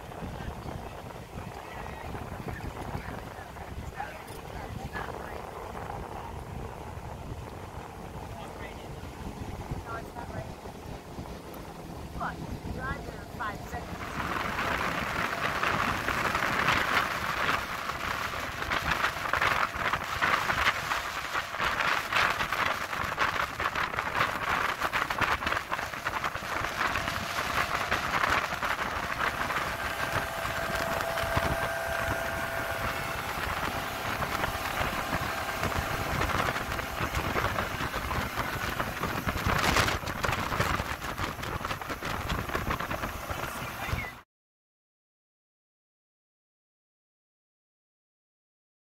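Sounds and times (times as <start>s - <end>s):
faint engine drone: 0.0s - 44.2s
wind and hull spray rushing: 0.0s - 44.2s.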